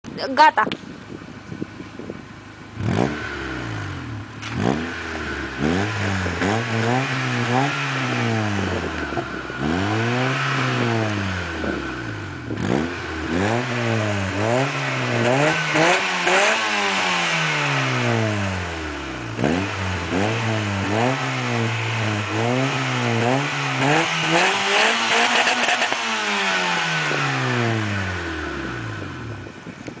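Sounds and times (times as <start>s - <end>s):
car engine revving: 2.6s - 29.5s.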